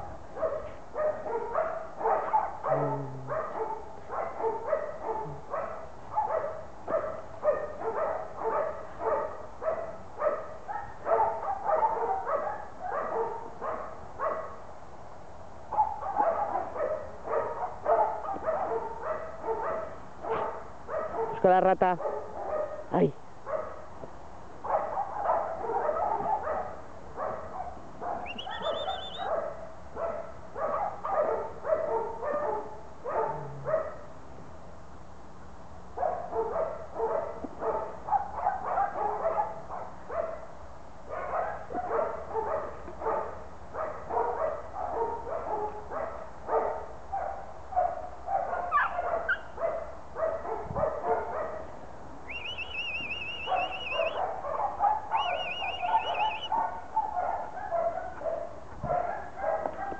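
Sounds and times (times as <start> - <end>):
dog barking: 0.0 - 14.7, 15.7 - 23.9, 24.6 - 34.1, 36.0 - 51.8, 53.2 - 59.9.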